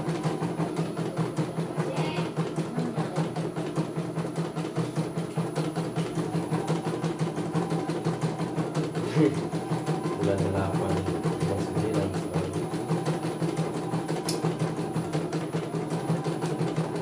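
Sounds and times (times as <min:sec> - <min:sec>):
embroidery machine clattering: 0:00.0 - 0:17.0.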